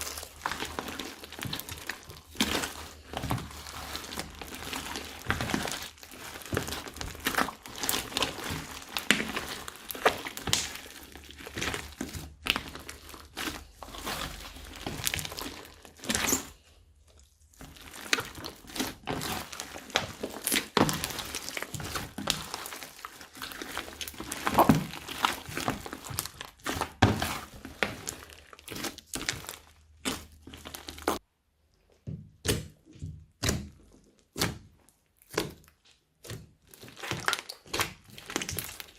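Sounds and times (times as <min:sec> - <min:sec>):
hands squishing slime: 0:00.0 - 0:38.9.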